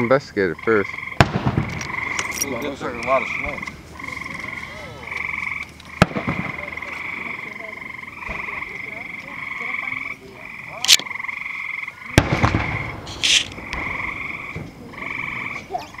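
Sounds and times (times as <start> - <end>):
frogs trilling: 0.0 - 16.0
distant fireworks cracks and booms: 0.9 - 10.0, 12.1 - 16.0.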